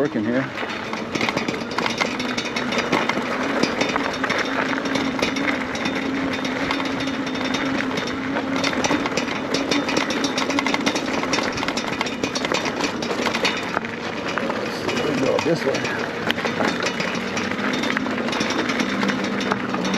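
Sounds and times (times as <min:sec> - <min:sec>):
electric bike rattling over dirt: 0:00.0 - 0:19.9.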